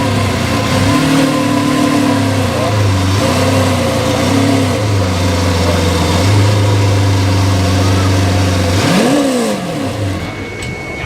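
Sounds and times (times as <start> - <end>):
sports car engine running: 0.0 - 11.0.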